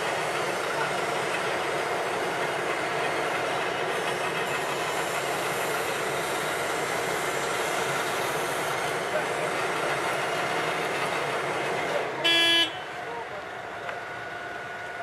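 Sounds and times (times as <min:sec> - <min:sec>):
asphalt paver engine running: 0:00.0 - 0:15.0.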